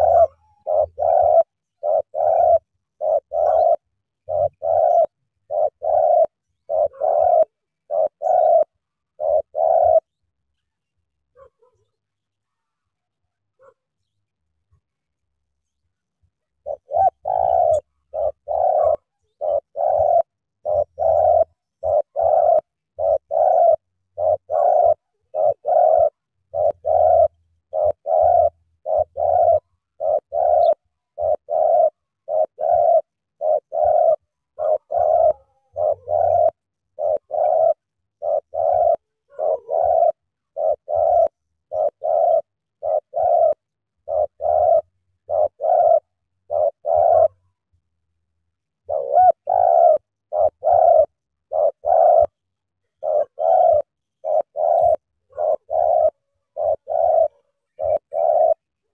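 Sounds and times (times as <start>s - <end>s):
doves cooing: 0.0s - 10.4s, 16.3s - 47.6s, 48.7s - 58.9s.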